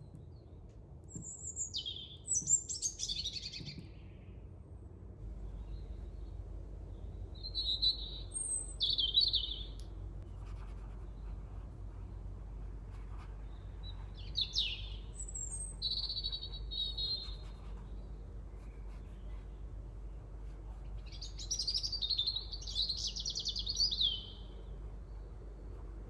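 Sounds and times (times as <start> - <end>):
small birds chirping: 0.0 - 4.4, 5.3 - 25.9
steady low hum: 0.0 - 26.0.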